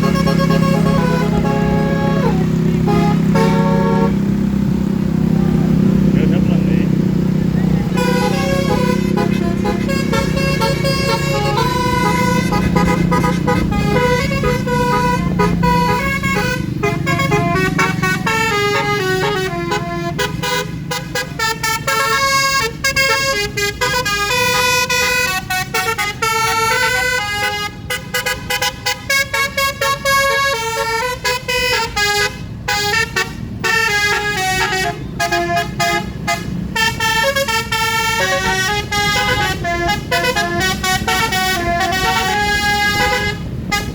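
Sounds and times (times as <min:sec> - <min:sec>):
musical bus horn tune: 0:00.0 - 0:04.5, 0:07.9 - 0:43.9.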